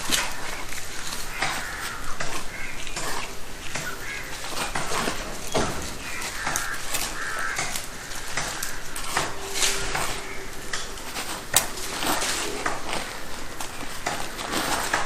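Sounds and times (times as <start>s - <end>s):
crows cawing: 0.0s - 15.0s
soil and stones scraping into sack: 0.0s - 15.0s.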